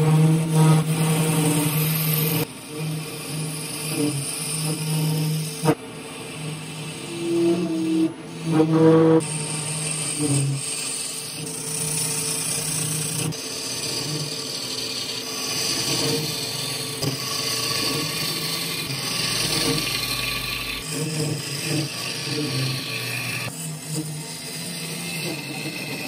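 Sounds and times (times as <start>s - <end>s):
wood lathe gouge cutting: 0.0s - 26.0s.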